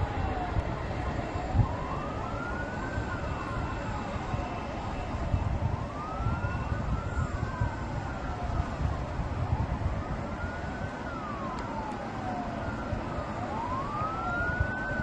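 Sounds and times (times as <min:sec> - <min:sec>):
emergency sirens wailing: 0:00.0 - 0:15.0.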